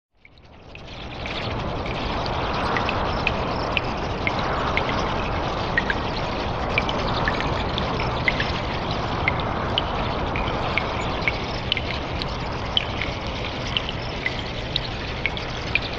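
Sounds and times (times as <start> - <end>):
flowing water rushing: 0.2 - 15.9
water drips plinking: 0.2 - 15.9.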